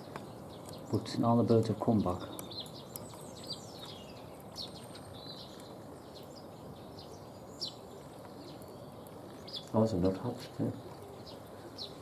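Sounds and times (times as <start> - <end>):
outdoor background hum: 0.0 - 12.0
songbirds chirping: 0.0 - 12.0.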